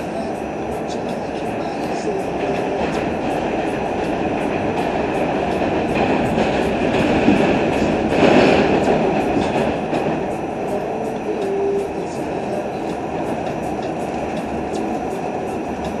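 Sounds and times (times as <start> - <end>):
subway car rumbling: 0.0 - 16.0
wheels clicking over rails: 0.0 - 16.0.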